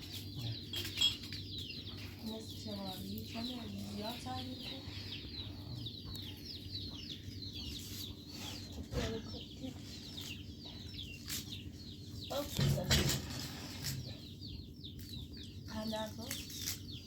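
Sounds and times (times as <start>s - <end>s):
chickens cheeping: 0.0s - 17.0s.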